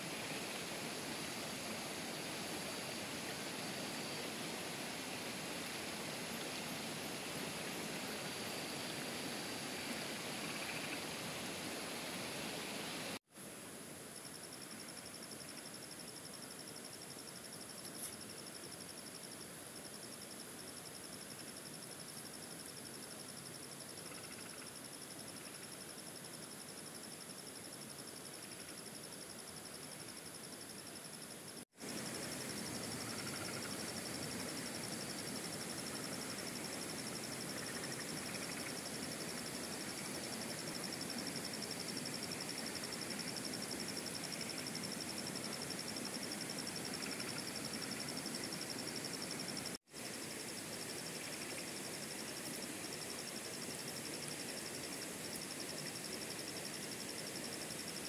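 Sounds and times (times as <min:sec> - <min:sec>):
night insects trilling: 0:00.0 - 0:13.2, 0:14.0 - 0:58.0
background hiss: 0:00.0 - 0:58.0.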